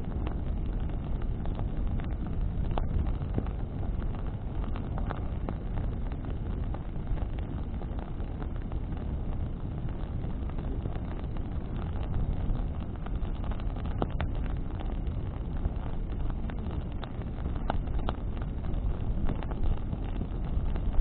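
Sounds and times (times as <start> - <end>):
bonfire flame and wind rushing: 0.0 - 21.0
burning wood crackling and popping: 0.0 - 21.0.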